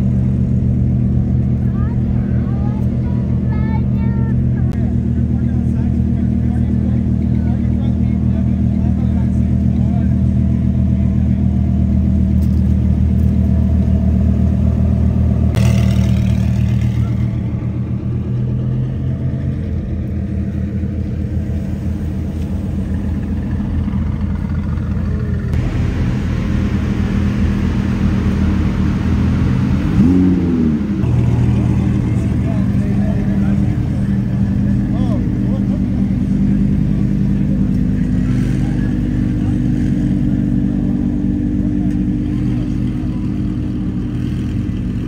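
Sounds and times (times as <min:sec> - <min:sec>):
car engine idling and revving: 0:00.0 - 0:45.0.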